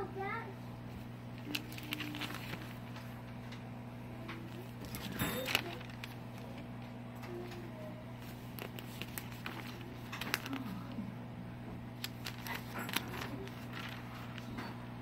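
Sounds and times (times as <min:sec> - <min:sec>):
steady low hum: 0:00.0 - 0:15.0
paper pages rustling and crinkling: 0:01.0 - 0:03.4, 0:04.4 - 0:11.1, 0:12.0 - 0:14.8.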